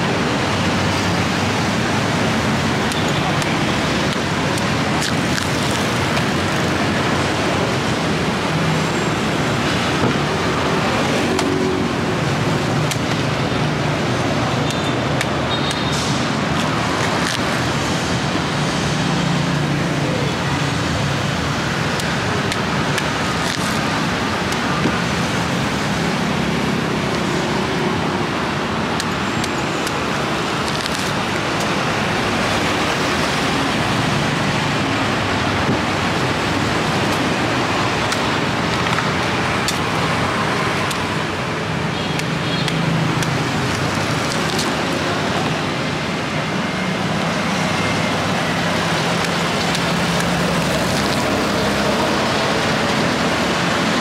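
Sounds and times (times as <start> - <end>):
passing motor vehicles humming: 0.0 - 54.0
road traffic noise: 0.0 - 54.0.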